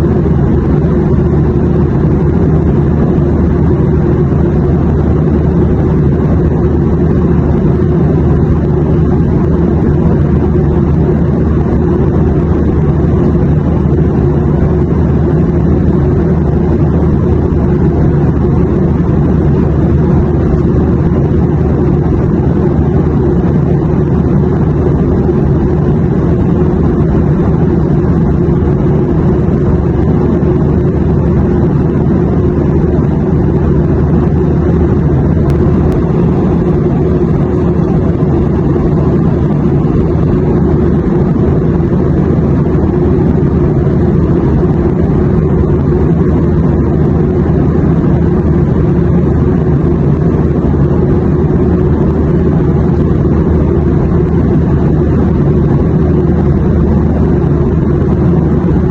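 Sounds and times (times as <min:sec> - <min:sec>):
airliner cabin drone: 0:00.0 - 0:58.9.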